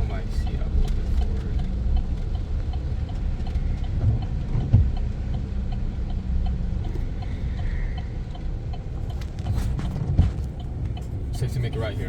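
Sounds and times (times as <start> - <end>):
faint regular ticking: 0.0 - 12.0
truck engine and road rumble: 0.0 - 12.0.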